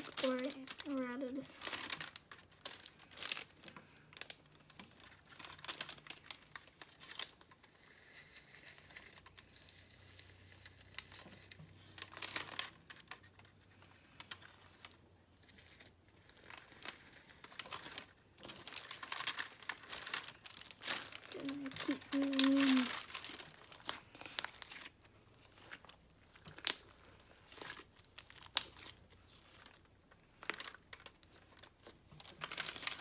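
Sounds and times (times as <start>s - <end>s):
slime crinkling and crackling: 0.0s - 33.0s.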